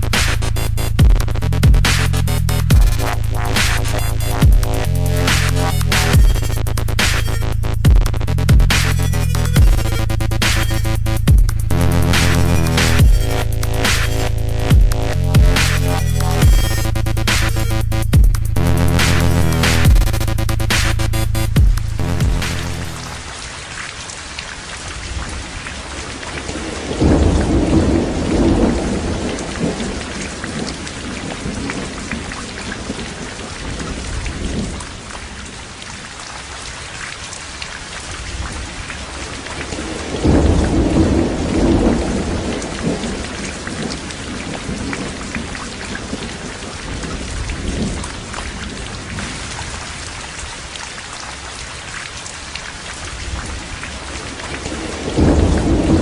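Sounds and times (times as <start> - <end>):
thunder rumbling: 0.0 - 23.3, 25.0 - 34.8, 38.2 - 50.2, 53.2 - 56.0
steady rain: 0.0 - 56.0.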